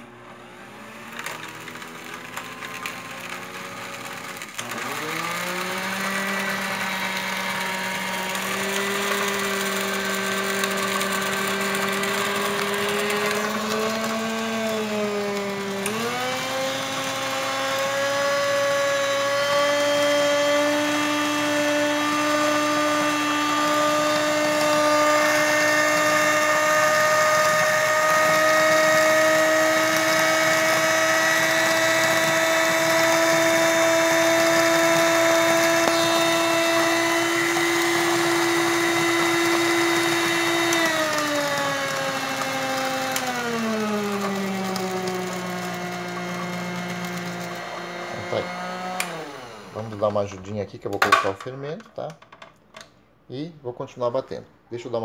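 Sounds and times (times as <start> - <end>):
stand mixer motor whining: 0.0 - 50.4.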